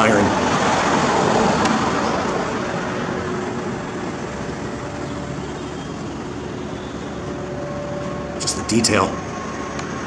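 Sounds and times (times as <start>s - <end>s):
traffic hum: 0.0s - 10.0s
vehicle passing: 0.0s - 10.0s.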